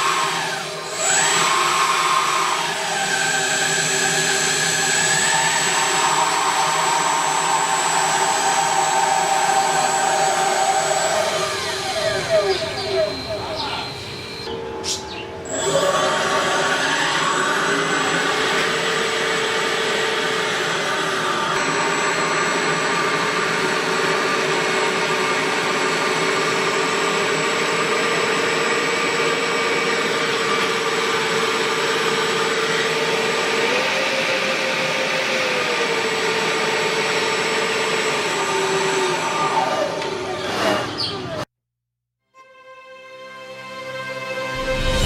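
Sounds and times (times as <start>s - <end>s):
jet motor fan whining: 0.0s - 41.5s.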